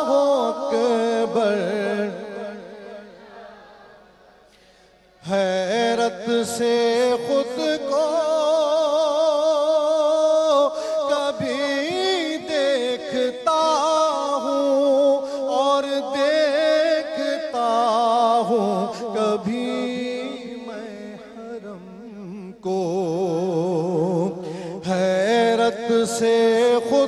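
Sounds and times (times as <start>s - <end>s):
man singing into a microphone: 0.0s - 4.0s, 5.2s - 27.0s.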